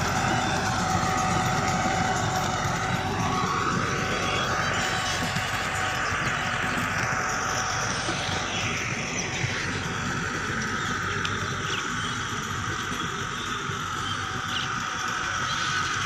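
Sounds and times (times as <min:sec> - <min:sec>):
distant tractor engine running: 0:00.0 - 0:16.0.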